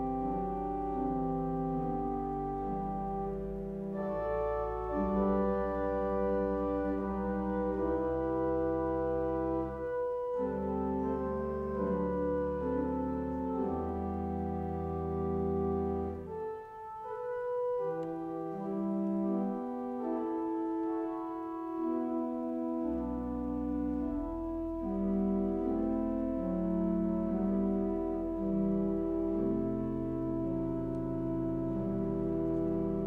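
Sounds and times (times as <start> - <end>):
slow instrumental chords: 0.0 - 33.0.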